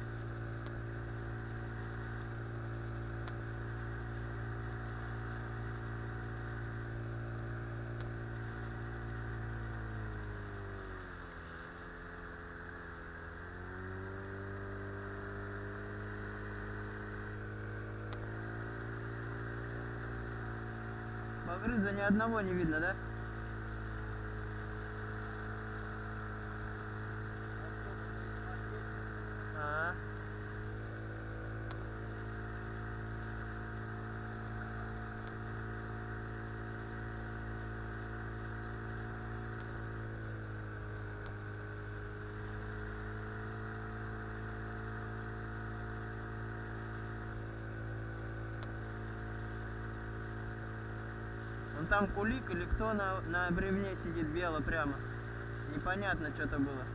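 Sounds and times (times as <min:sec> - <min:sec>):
outboard motor droning: 0:00.0 - 0:56.9.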